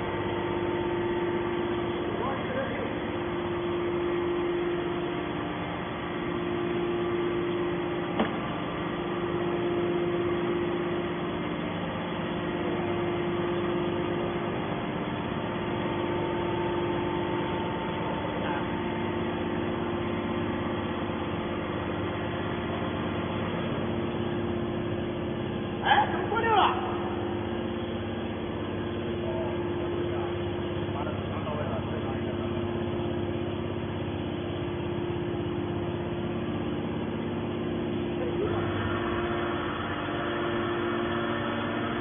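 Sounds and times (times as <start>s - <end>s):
hydraulic baler motor hum: 0.0s - 42.0s.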